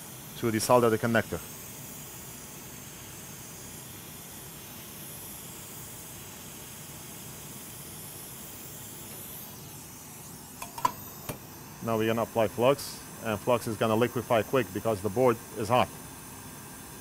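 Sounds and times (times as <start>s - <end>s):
hot air blower hissing: 0.0s - 17.0s.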